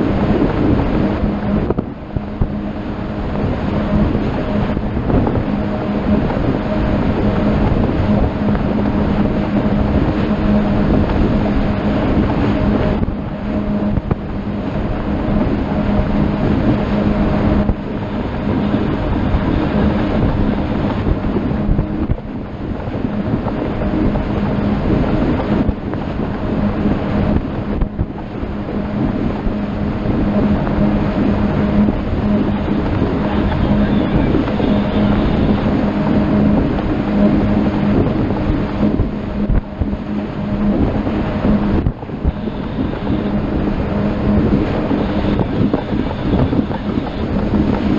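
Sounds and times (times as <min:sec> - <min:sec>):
motorboat engine hum: 0:00.0 - 0:47.9
water rushing past hull: 0:00.0 - 0:47.9
wind on microphone: 0:00.0 - 0:47.9.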